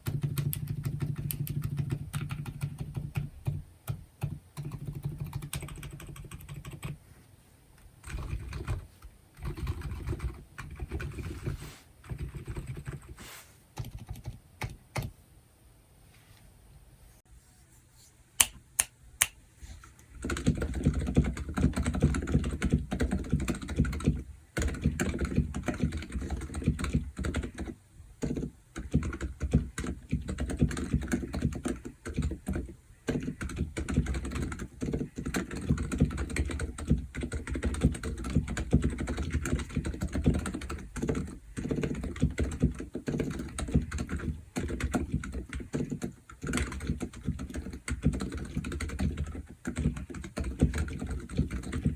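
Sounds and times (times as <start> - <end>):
fast typing on mechanical keyboard: 0.0 - 7.0, 8.0 - 13.2, 13.8 - 15.1, 20.1 - 51.9
sharp keyboard clicks: 0.0 - 7.0, 8.0 - 8.8, 9.4 - 13.1, 13.8 - 15.1, 18.4 - 19.3, 20.1 - 51.9.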